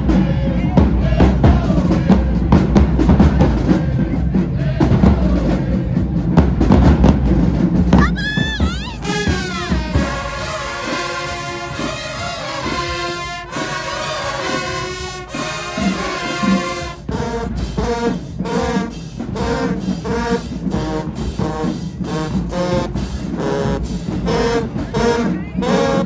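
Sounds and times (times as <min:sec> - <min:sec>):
marching band brass playing: 0:00.0 - 0:26.0.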